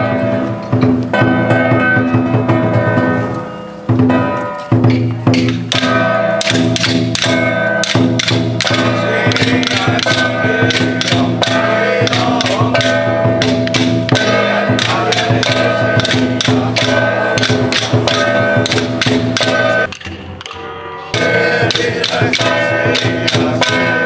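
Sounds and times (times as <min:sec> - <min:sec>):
percussion strikes: 0:00.0 - 0:24.0.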